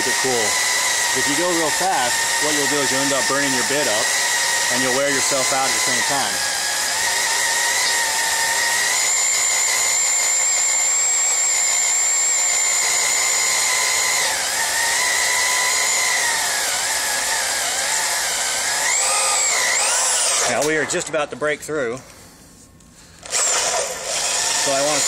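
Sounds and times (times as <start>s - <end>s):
electric drill boring steel: 0.0s - 20.8s, 23.2s - 25.0s.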